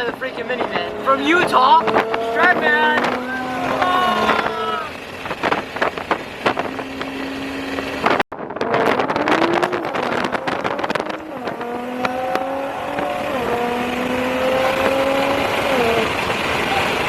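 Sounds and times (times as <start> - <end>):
car engine driving: 0.0 - 17.0
engine crackles and pops: 0.0 - 17.0.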